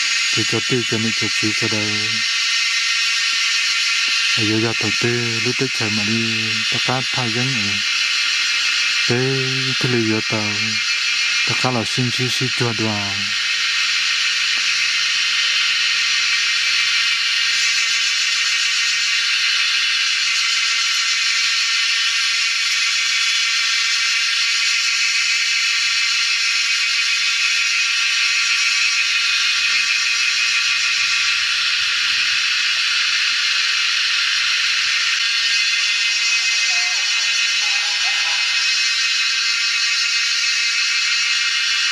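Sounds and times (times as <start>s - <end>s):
steady loud hiss: 0.0s - 41.9s.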